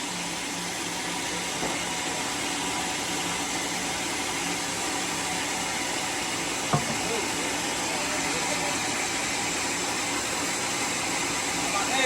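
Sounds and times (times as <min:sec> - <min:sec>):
sawmill machinery hissing: 0:00.0 - 0:12.0.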